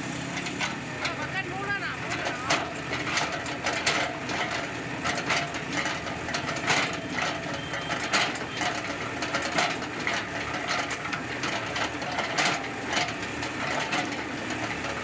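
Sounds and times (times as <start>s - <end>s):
excavator diesel engine running: 0.0s - 15.0s
metallic clanks and knocks: 0.2s - 15.0s.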